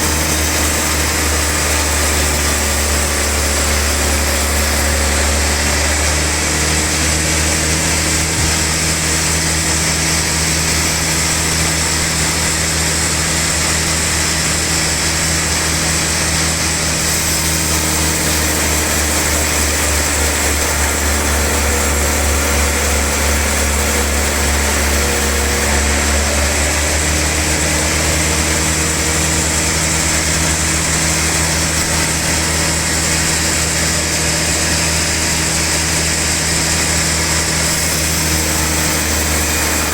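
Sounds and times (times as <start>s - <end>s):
log saw running: 0.0s - 39.9s.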